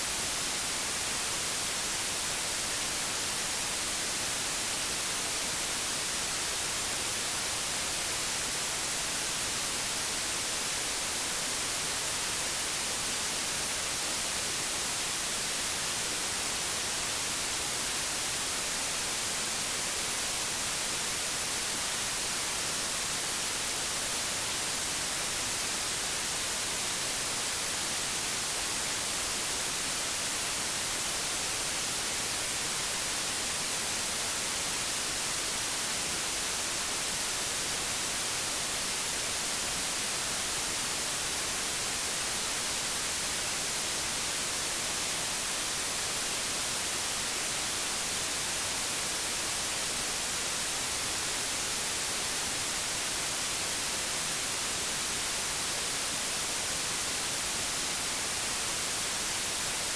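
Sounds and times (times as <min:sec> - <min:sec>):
television static hiss: 0:00.0 - 0:59.9.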